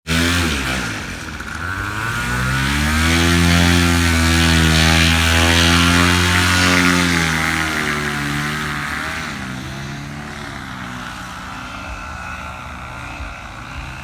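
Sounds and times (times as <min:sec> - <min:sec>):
paramotor engine running up: 0:00.1 - 0:14.0.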